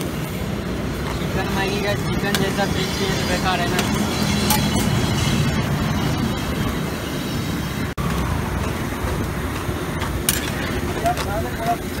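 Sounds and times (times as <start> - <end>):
pan boiling hard on gas burner: 0.0 - 12.0.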